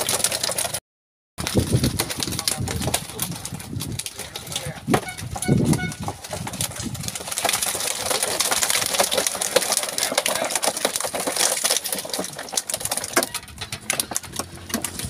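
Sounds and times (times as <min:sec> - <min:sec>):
fish thrashing and slapping: 0:00.0 - 0:00.8, 0:01.4 - 0:15.0.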